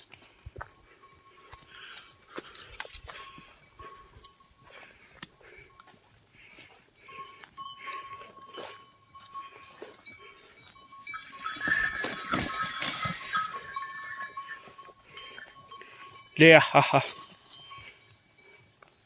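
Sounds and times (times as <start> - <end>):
hoof knocks: 0.0 - 16.3
livestock bells clinking: 0.0 - 19.0
rustling undergrowth: 0.0 - 19.0.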